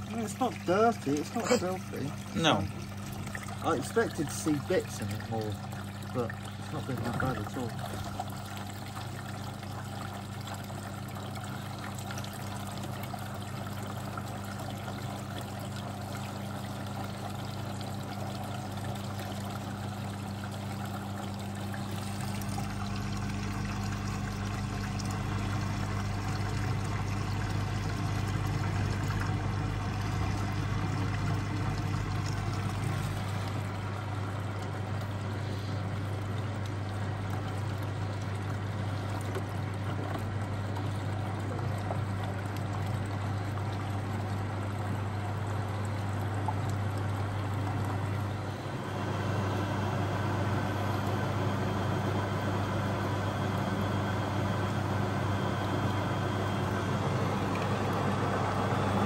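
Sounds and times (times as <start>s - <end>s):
washing machine hum: 0.0s - 59.0s
washing machine water pouring: 0.0s - 59.0s.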